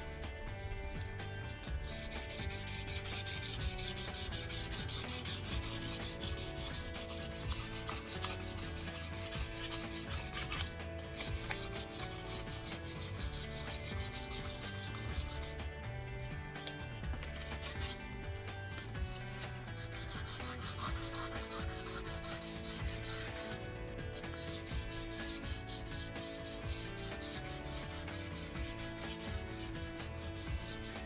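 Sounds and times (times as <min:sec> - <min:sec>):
sandpaper rubbing on metal: 0:00.0 - 0:31.0.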